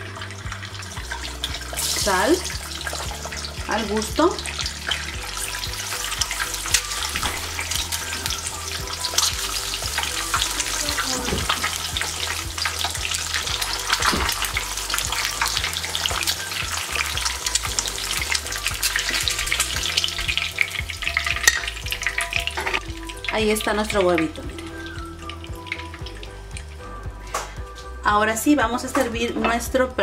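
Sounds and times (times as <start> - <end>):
egg sizzling in hot oil: 0.0 - 27.8.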